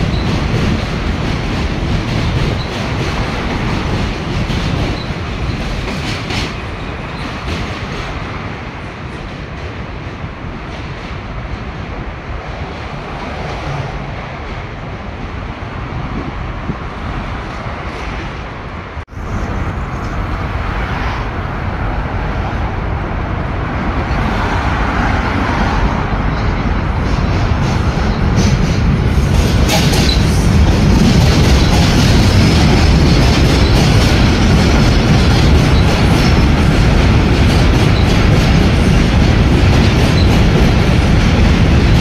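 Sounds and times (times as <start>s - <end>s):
subway train rumbling on a bridge: 0.0s - 42.0s.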